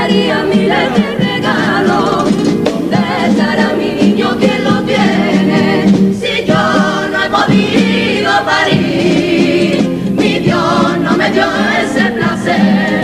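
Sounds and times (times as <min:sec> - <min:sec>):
choir singing in harmony: 0:00.0 - 0:13.0
guitars playing: 0:00.0 - 0:13.0.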